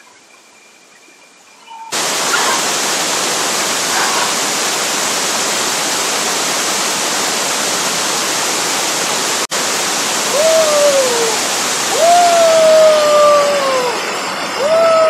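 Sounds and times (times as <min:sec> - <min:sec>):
waterfall rushing water: 0:01.9 - 0:15.0.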